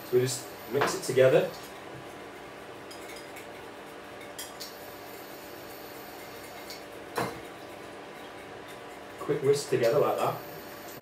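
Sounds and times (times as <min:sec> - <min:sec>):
whisk beating in ceramic bowl: 0:00.7 - 0:04.8, 0:05.5 - 0:10.4.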